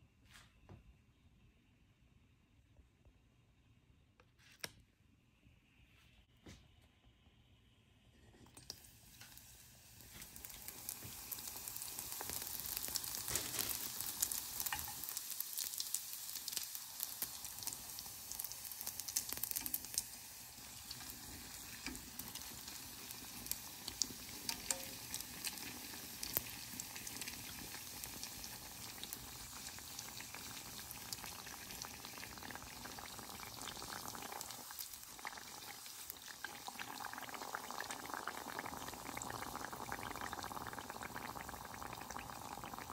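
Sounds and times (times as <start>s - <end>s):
food sizzling in a pan: 8.6s - 42.9s.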